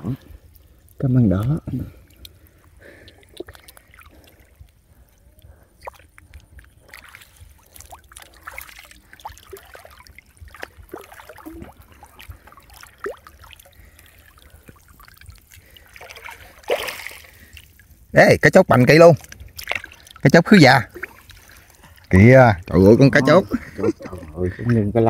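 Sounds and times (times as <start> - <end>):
small splashes: 0.0 - 18.1, 19.2 - 22.7
water sloshing: 0.0 - 18.1, 18.7 - 25.0.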